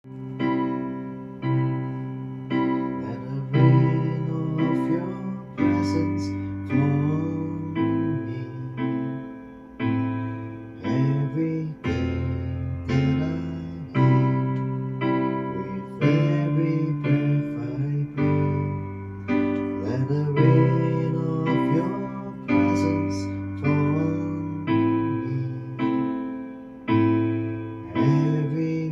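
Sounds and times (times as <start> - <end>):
piano keyboard slow chords: 0.0 - 28.9.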